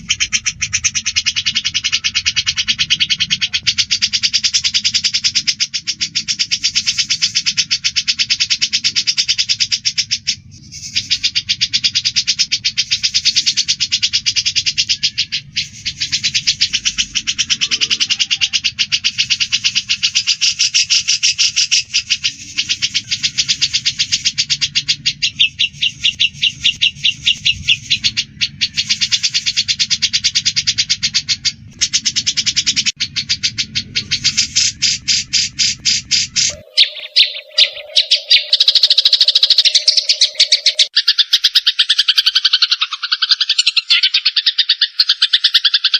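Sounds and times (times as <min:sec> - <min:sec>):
birds chirping agitatedly: 0:00.0 - 0:45.9.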